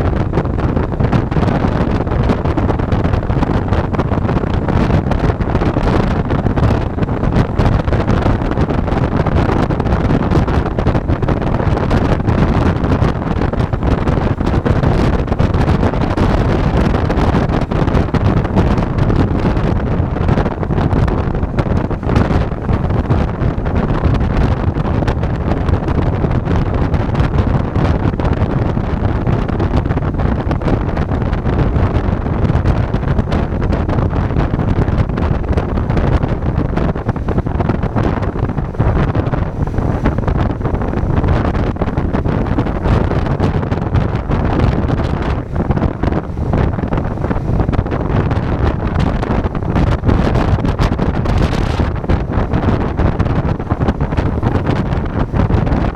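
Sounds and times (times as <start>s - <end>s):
wind rush on microphone: 0.0s - 55.9s.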